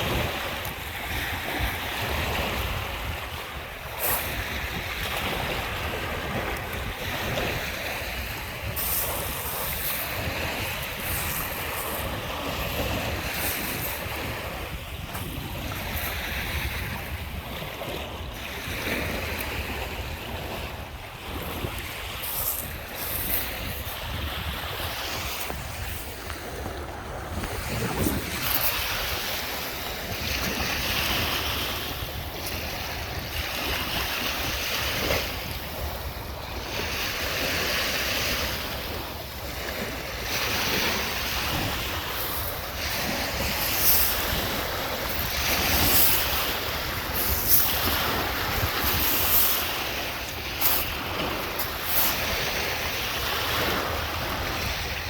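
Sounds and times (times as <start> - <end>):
waves washing onto shore: 0.0 - 55.0
wind rumbling on microphone: 0.0 - 55.0.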